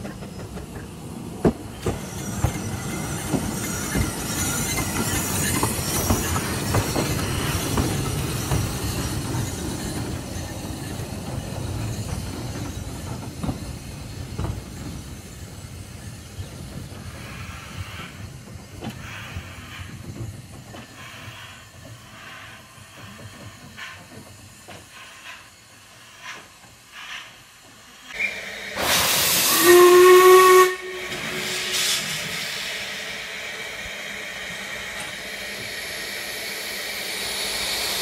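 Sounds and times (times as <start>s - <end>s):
steam locomotive rumbling and clanking: 0.0s - 38.0s
steam hiss bursts: 1.6s - 38.0s.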